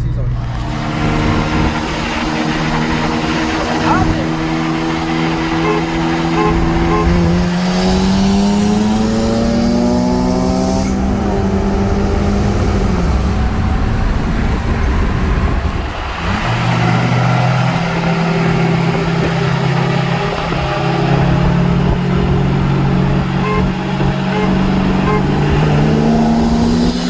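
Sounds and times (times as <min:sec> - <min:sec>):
turbocharged car engine revving: 0:00.3 - 0:27.0.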